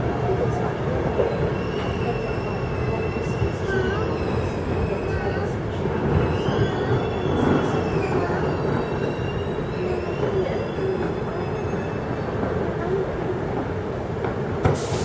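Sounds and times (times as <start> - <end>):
train rumbling over track: 0.0 - 15.0.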